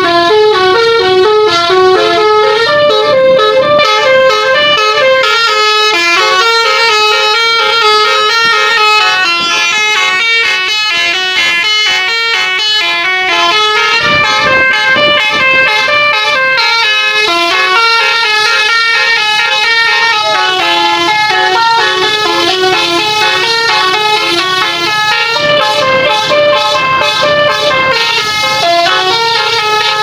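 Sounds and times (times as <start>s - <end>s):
air horn playing melody: 0.0s - 30.0s.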